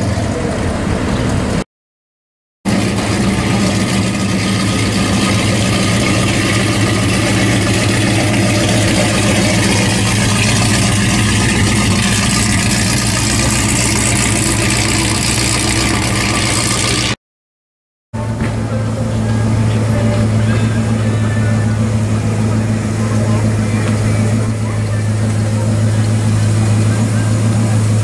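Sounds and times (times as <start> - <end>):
car engine idling: 0.0 - 1.6, 2.7 - 17.2, 18.2 - 28.0.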